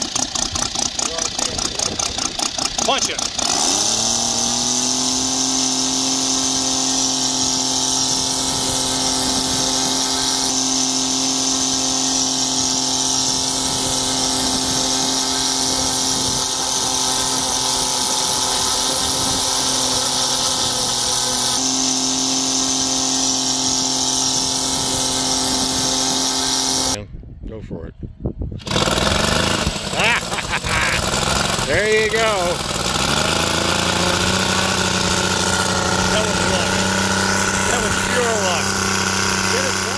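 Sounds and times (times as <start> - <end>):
radial engine running: 0.0 - 27.0, 28.7 - 39.9.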